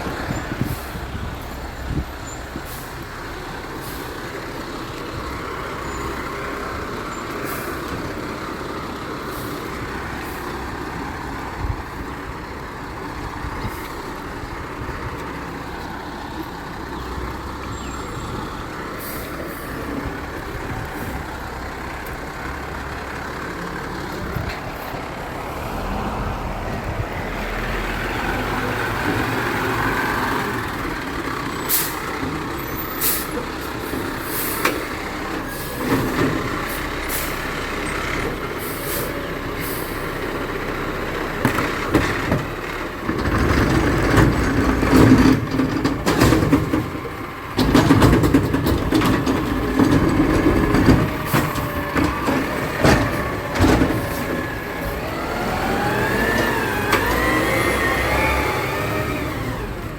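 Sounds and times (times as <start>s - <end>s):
garbage truck engine running: 0.0s - 59.9s.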